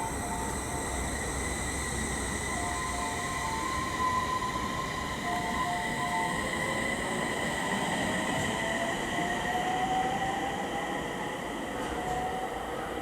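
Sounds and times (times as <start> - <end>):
electric train inverter whine: 0.0 - 13.0.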